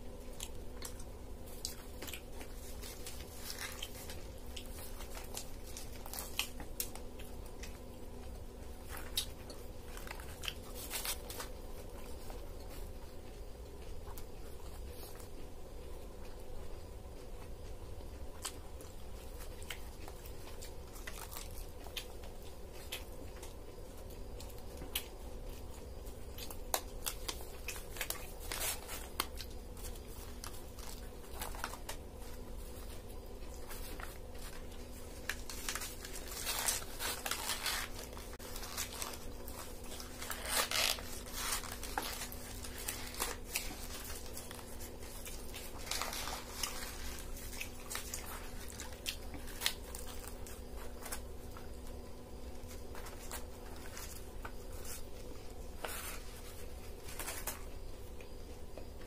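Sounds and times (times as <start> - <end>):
chewing: 0.1 - 59.0
paper wrappers crinkling and tearing: 0.3 - 13.5, 18.1 - 58.2.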